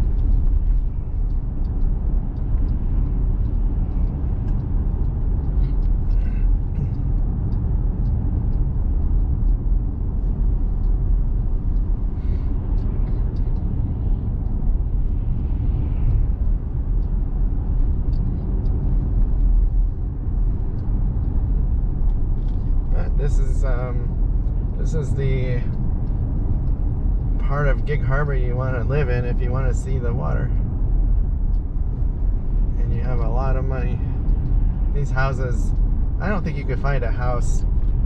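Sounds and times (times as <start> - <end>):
small truck driving on road: 0.0 - 29.2, 30.1 - 38.0.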